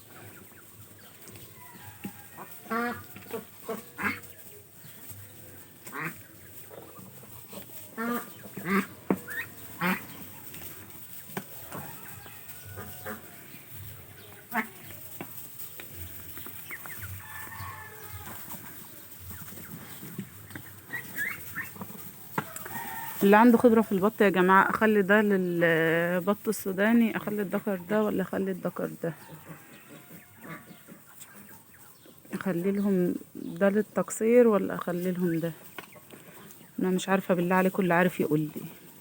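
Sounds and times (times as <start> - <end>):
poultry calling: 0.0 - 39.0.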